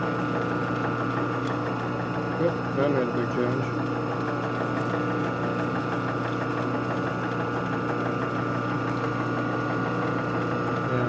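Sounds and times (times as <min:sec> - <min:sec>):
electric machine hum: 0:00.0 - 0:11.0.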